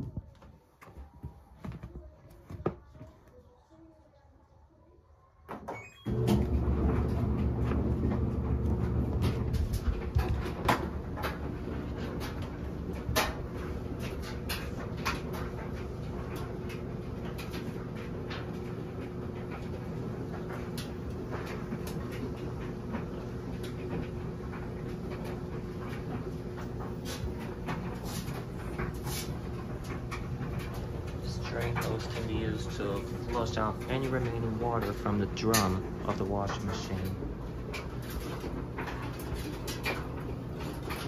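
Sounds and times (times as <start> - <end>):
washing machine hum: 0.0 - 4.0, 5.2 - 41.0.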